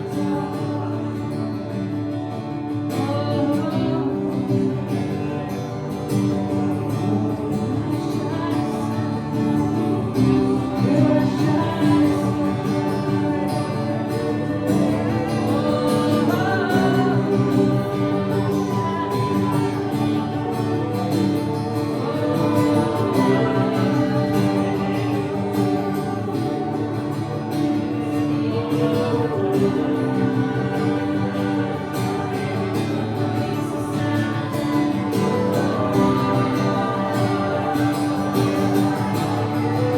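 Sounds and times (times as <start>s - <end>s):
acoustic guitar: 0.0s - 39.9s
person singing: 0.0s - 39.9s.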